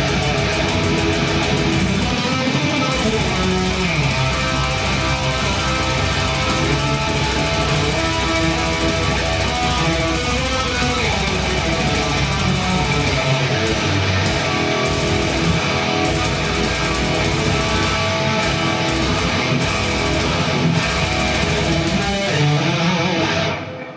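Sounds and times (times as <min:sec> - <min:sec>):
electric guitar riff: 0:00.0 - 0:23.9.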